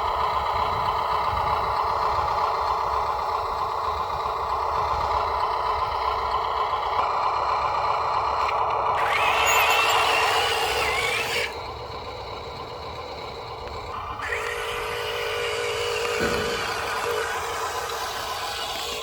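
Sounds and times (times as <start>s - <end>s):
electric motor and gearbox whining: 0.1s - 19.0s.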